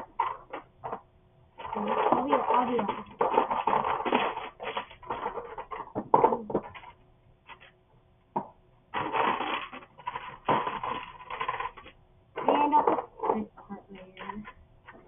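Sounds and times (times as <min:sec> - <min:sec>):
plastic pieces clattering: 0:00.0 - 0:01.0, 0:01.6 - 0:07.8, 0:08.4 - 0:15.0.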